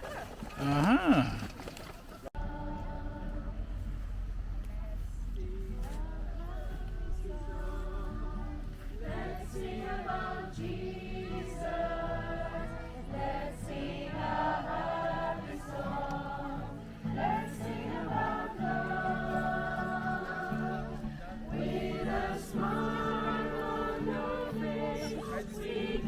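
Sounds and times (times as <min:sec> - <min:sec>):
group of voices singing: 0:02.4 - 0:26.0
low musical accompaniment: 0:02.4 - 0:26.0.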